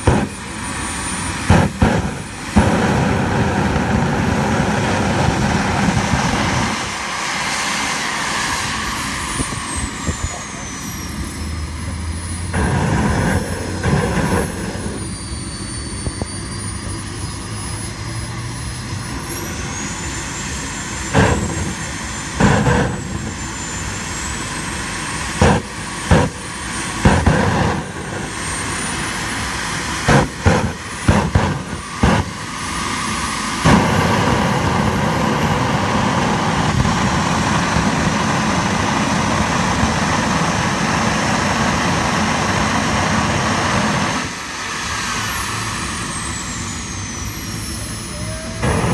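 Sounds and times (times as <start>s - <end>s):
short loud turbine blasts: 0.0s - 10.3s, 12.2s - 16.0s, 19.2s - 46.3s, 47.2s - 48.9s
model jet turbine roaring: 0.0s - 48.9s.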